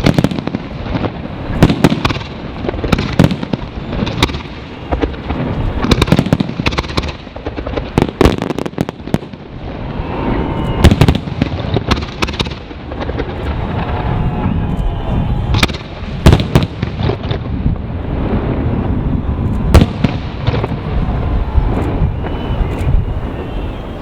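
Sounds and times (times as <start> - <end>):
fireworks bursts and bangs: 0.0 - 24.0.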